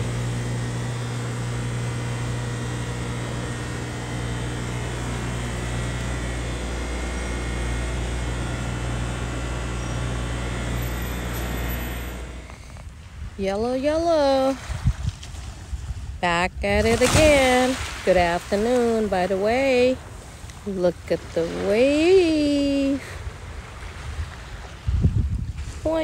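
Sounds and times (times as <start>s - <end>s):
electrical machinery humming: 0.0s - 14.7s, 16.2s - 25.2s.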